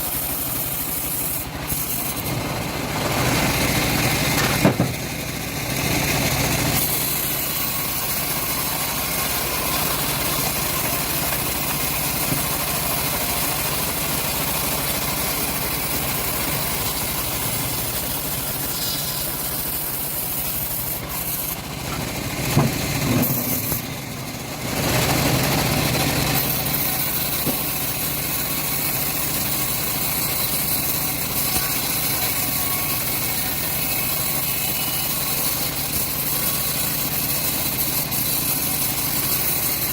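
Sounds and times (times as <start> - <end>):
bandsaw mill cutting log: 0.0 - 39.9.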